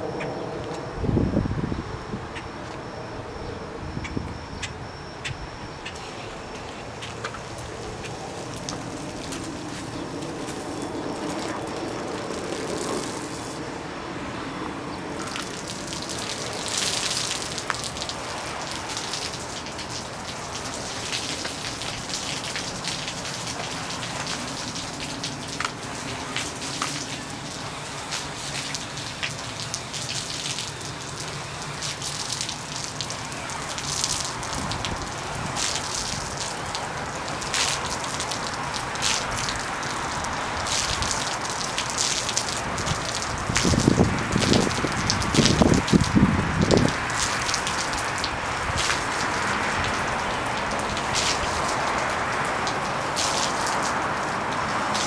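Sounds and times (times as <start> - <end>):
water spraying from hose brush: 5.8 - 55.0
water splashing on fabric awning: 5.9 - 55.0.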